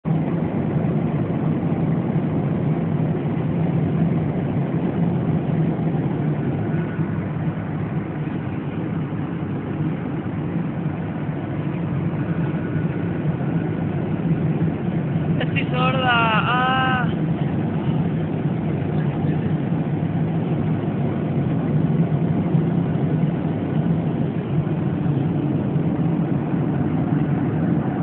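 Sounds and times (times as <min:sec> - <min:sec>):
airliner cabin engine drone: 0:00.0 - 0:28.0
rush of airflow: 0:00.0 - 0:28.0.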